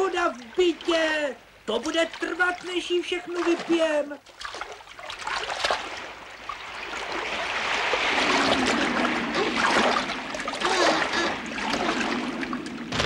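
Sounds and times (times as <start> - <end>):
flood water splashing and gurgling: 0.0 - 13.0.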